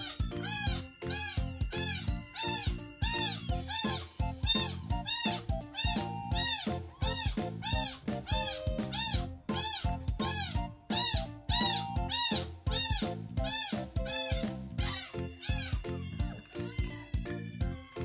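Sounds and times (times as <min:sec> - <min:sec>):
kitten mewing: 0:00.0 - 0:15.9, 0:16.6 - 0:17.0
background music: 0:00.0 - 0:18.0.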